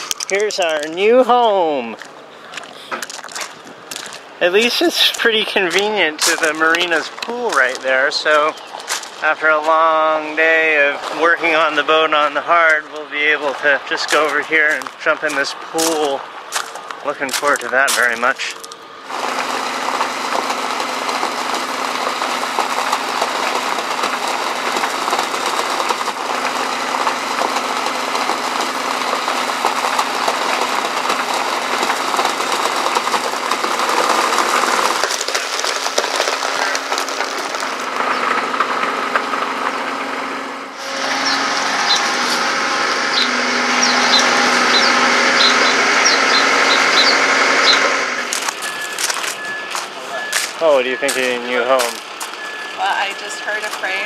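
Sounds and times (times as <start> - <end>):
travel lift engine running: 0.0 - 54.0.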